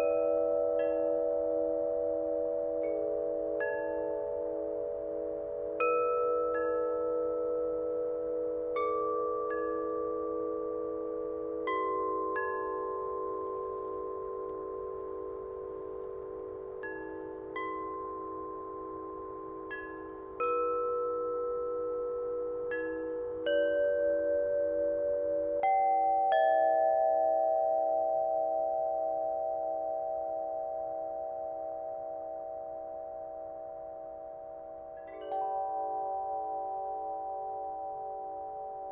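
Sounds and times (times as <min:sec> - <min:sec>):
low wavering tone: 0:00.0 - 0:38.9.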